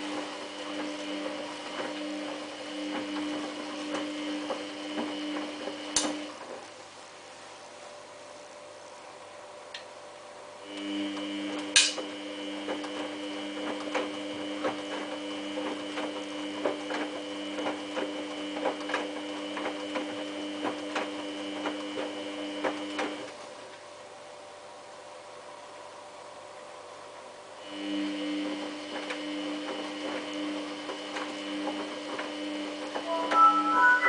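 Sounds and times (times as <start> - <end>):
washing machine motor whine: 0.0 - 24.1, 27.7 - 34.0.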